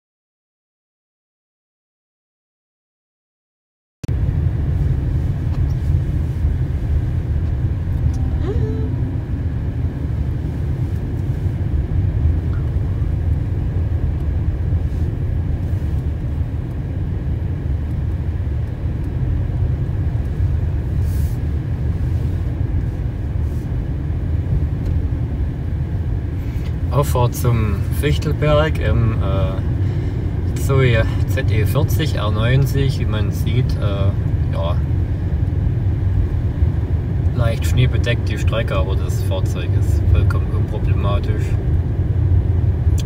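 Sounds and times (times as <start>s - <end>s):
road and tyre rumble in car: 4.1s - 43.0s.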